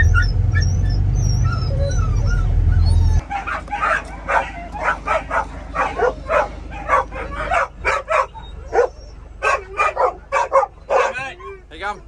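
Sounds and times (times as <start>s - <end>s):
dogs barking and yipping: 0.0s - 11.7s
low engine hum: 0.0s - 12.0s.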